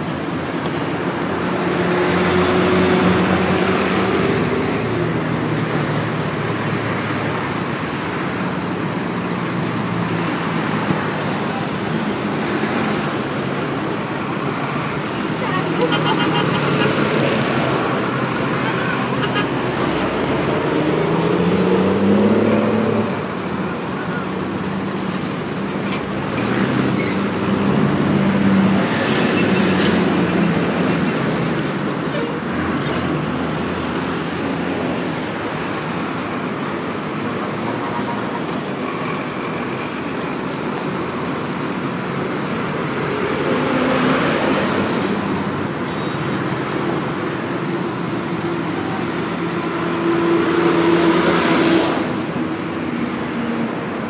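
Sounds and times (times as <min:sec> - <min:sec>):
car and bus engines passing: 0:00.0 - 0:54.0.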